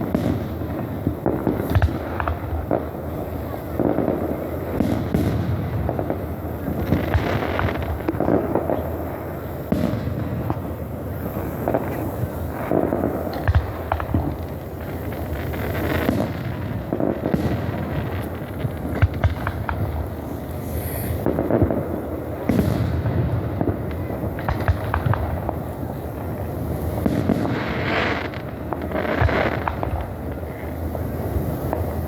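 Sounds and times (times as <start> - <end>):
fireworks booming and crackling: 0.0 - 32.0
sharp firework bangs: 0.0 - 32.0.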